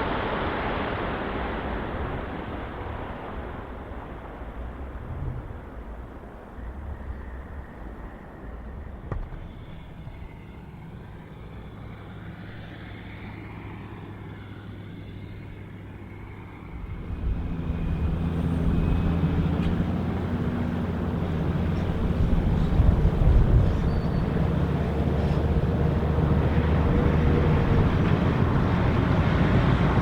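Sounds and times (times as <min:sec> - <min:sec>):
jet engines rumbling: 0:00.0 - 0:30.0
steady engine tones: 0:00.0 - 0:30.0.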